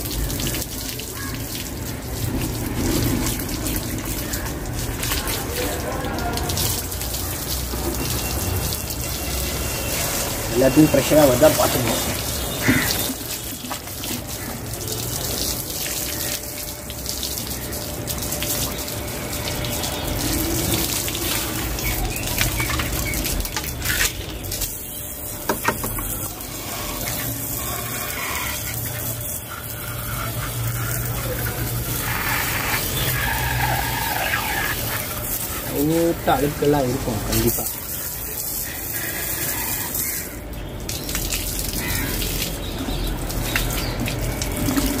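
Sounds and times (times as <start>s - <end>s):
garden hose water spraying: 0.0s - 45.0s.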